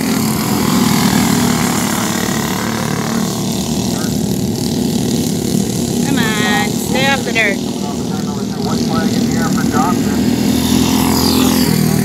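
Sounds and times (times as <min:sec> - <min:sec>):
go-kart engines buzzing: 0:00.0 - 0:12.0.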